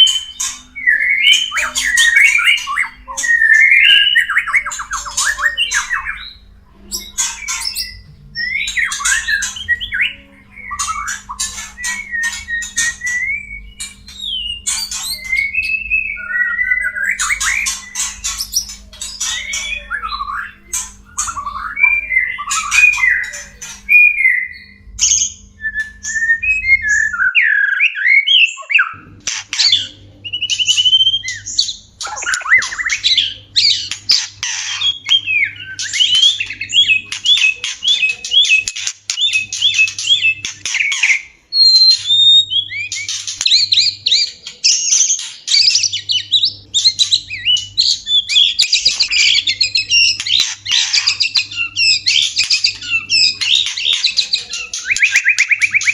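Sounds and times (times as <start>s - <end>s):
scratchy bird chattering: 0.0s - 25.3s, 28.6s - 55.9s
high fast bird song: 0.0s - 55.9s.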